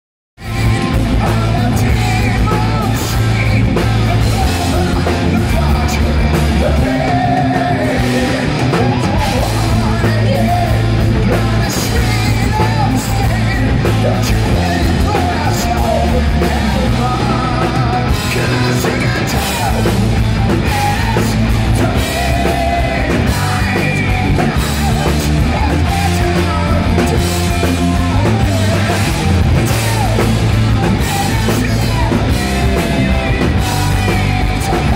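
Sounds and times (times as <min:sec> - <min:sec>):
drums: 0:00.4 - 0:34.9
electric guitars: 0:00.4 - 0:34.9
live rock band: 0:00.4 - 0:34.9
low bass notes: 0:00.4 - 0:34.9
person singing: 0:00.4 - 0:34.9.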